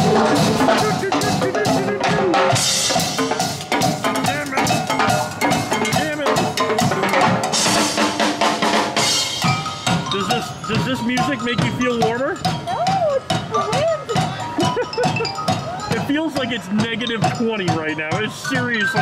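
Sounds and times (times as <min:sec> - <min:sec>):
drums playing together: 0:00.0 - 0:19.0.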